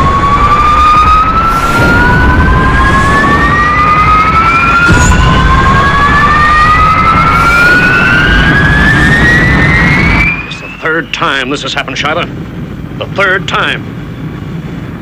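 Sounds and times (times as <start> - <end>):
jet engine high whine: 0.0 - 15.0
jet engine roar: 0.0 - 15.0.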